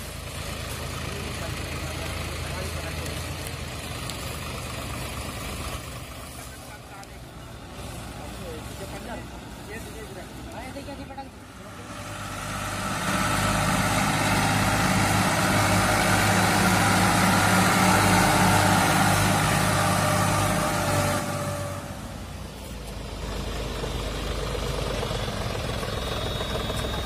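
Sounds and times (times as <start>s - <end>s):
diesel tractor engine running: 0.0s - 27.0s
tractor idling: 0.0s - 27.0s.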